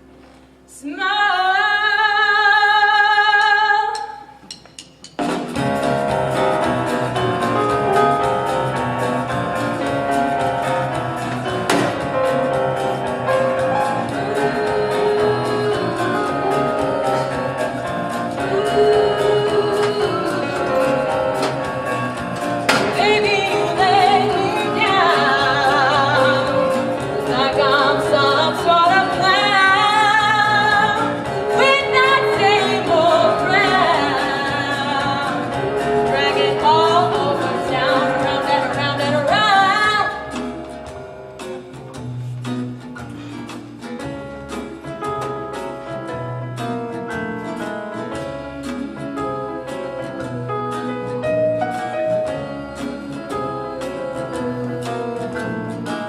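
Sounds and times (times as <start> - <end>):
instrumental accompaniment: 2.6 - 56.0.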